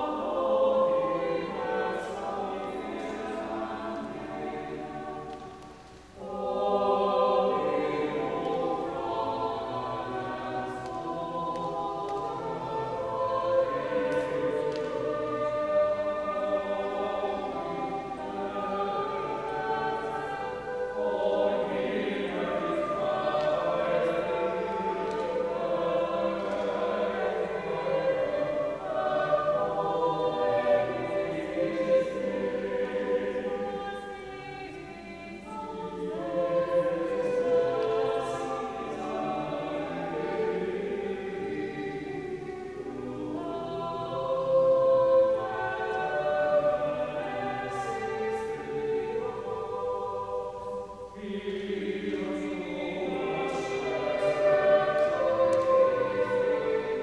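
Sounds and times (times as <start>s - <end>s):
church choir singing: 0.0s - 57.0s.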